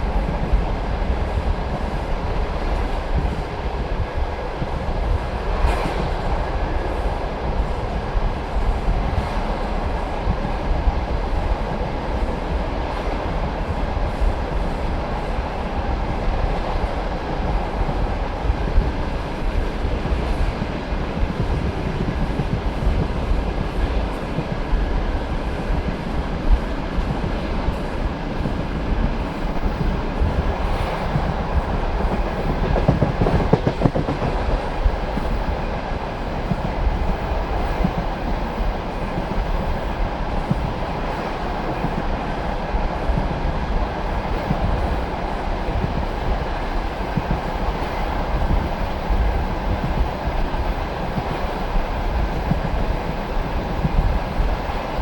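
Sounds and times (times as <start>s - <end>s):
train carriage rumble: 0.0s - 55.0s.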